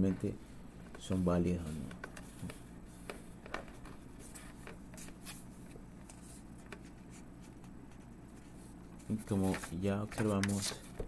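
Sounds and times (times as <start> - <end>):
paper rustling: 1.8 - 11.0.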